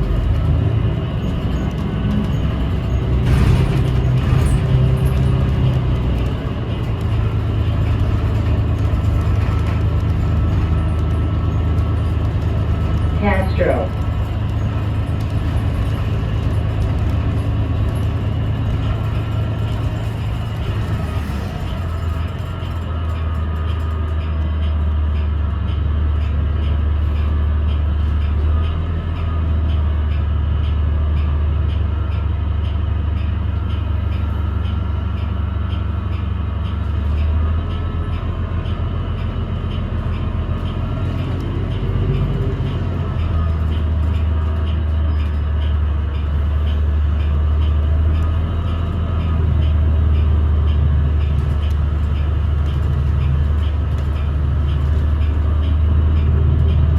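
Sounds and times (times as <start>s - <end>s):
bus interior low drone: 0.0s - 56.9s.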